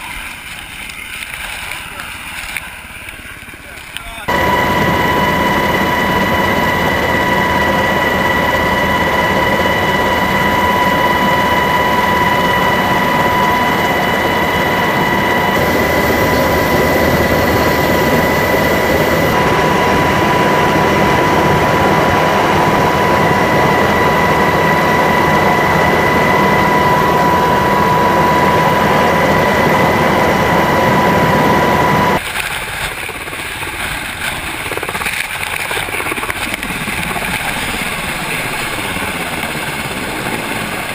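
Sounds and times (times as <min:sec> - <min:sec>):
helicopter rotor and engine noise: 0:00.0 - 0:40.9
high turbine whine: 0:00.0 - 0:40.9.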